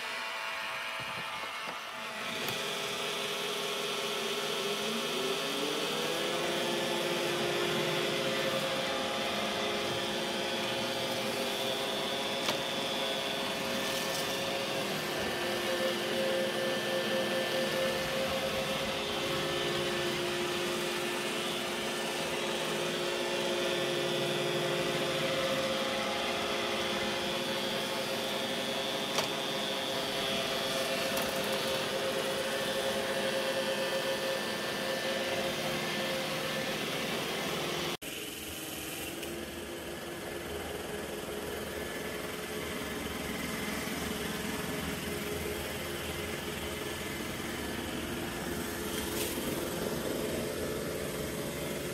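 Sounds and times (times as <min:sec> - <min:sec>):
vacuum cleaner running: 0:00.0 - 0:51.9
robot vacuum motor hum: 0:00.8 - 0:51.9.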